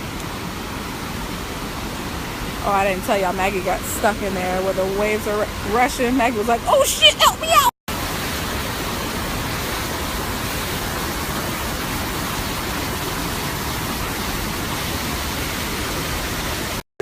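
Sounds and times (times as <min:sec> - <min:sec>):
rushing water: 0:00.0 - 0:16.8.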